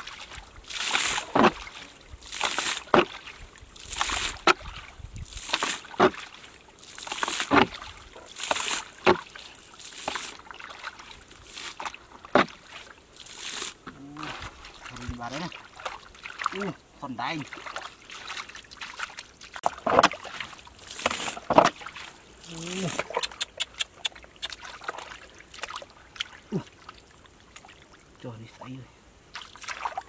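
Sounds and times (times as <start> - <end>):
water splashing and slapping: 0.0 - 28.2, 29.3 - 30.0.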